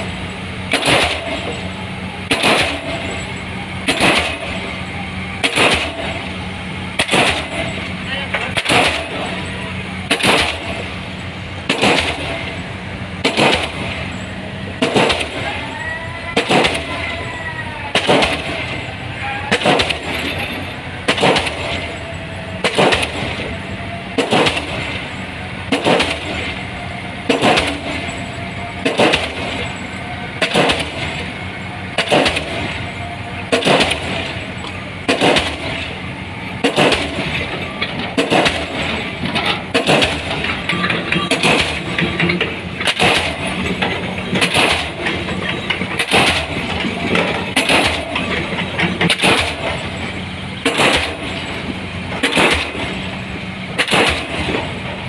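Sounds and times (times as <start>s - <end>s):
pile hammer banging: 0.6s - 55.0s.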